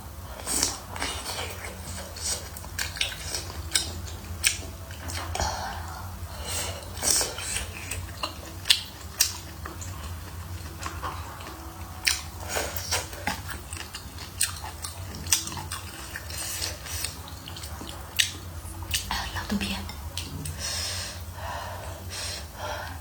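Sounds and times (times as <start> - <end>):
steady low hum: 0.0 - 23.0
person chewing food: 0.4 - 19.1.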